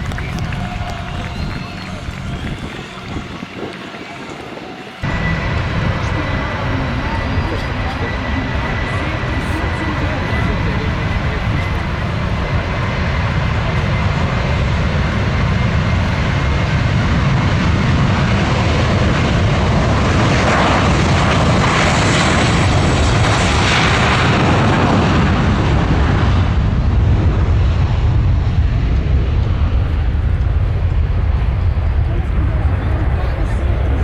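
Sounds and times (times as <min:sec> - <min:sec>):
military aircraft flying past: 0:00.0 - 0:34.0.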